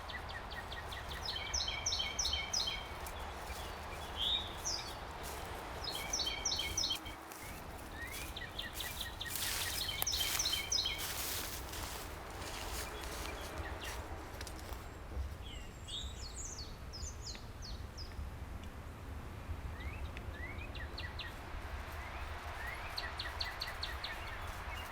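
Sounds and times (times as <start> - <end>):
songbird singing: 0.0 - 18.3, 19.6 - 24.9
low outdoor rush: 0.0 - 24.9.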